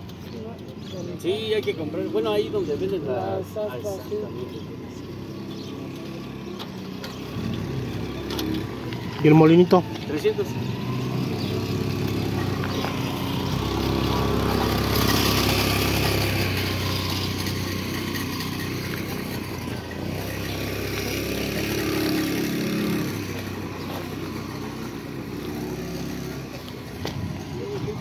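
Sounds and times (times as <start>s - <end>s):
engine running: 4.2s - 28.0s.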